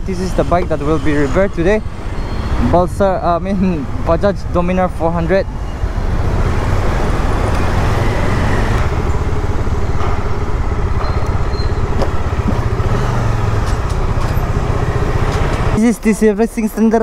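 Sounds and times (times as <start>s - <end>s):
motorcycle engine rumble: 0.0s - 16.7s.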